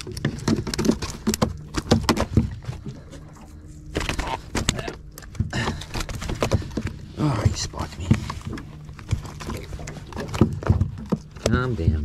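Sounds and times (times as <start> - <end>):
fish thrashing on deck: 0.0 - 11.6.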